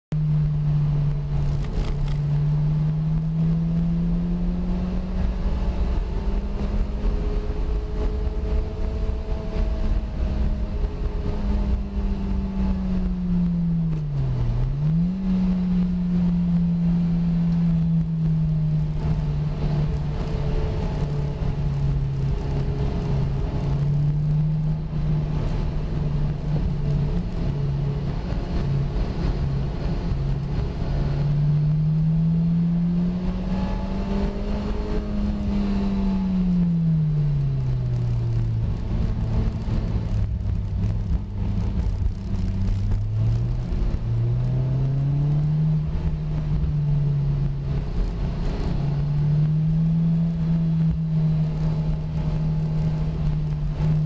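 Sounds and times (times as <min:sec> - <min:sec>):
road and wind rumble: 0:00.0 - 0:54.0
car engine running: 0:00.1 - 0:54.0.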